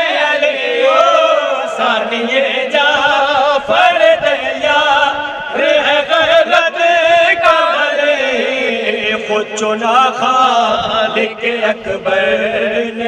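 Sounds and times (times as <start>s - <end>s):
men singing unaccompanied: 0.0s - 13.0s.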